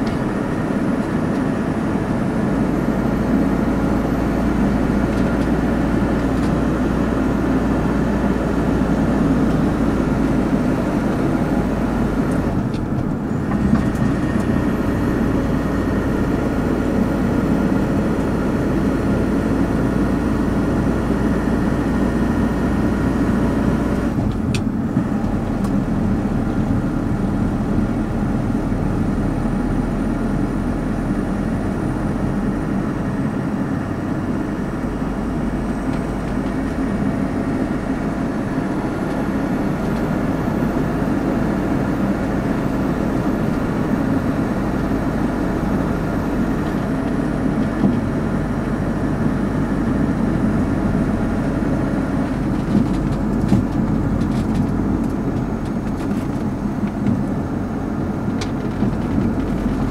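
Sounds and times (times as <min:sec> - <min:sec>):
car road noise from inside: 0:00.0 - 0:59.9
low engine hum: 0:00.0 - 0:59.9.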